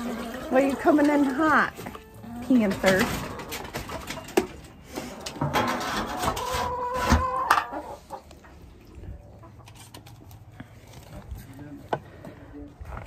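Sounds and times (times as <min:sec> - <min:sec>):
hens clucking: 0:00.0 - 0:10.5.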